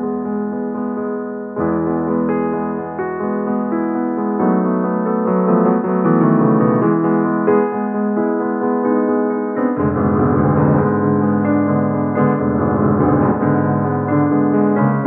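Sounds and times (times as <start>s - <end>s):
digital piano playing held chords: 0.0s - 15.0s.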